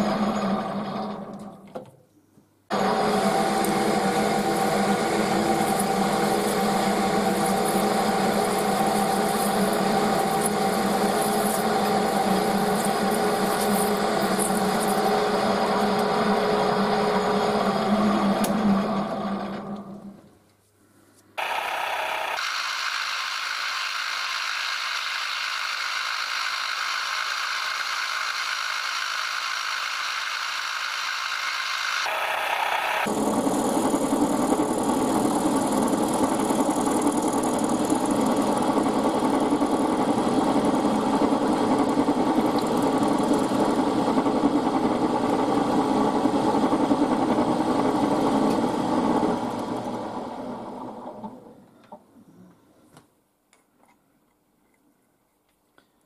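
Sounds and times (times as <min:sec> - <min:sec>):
milling machine cutting metal: 0:02.7 - 0:19.8, 0:21.4 - 0:50.0.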